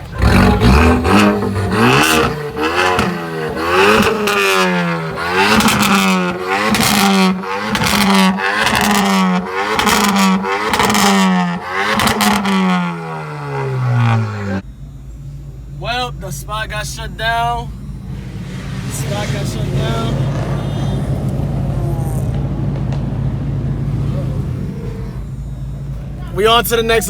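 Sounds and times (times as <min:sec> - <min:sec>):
car engine revving in blips: 0:00.0 - 0:27.0.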